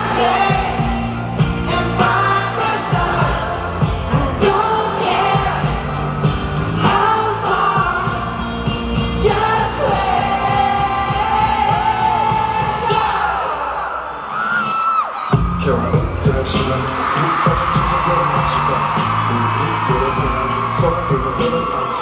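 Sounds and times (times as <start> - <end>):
pop song with sung vocals: 0.0 - 22.0.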